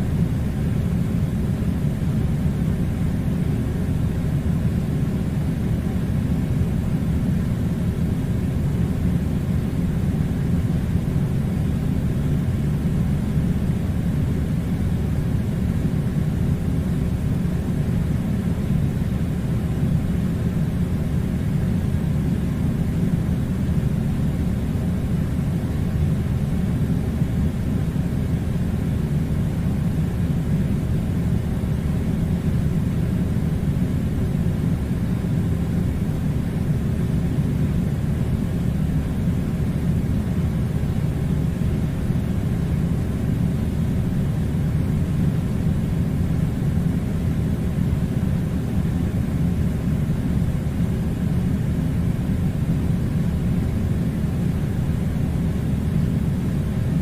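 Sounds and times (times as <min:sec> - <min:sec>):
air conditioner running: 0:00.0 - 0:57.0.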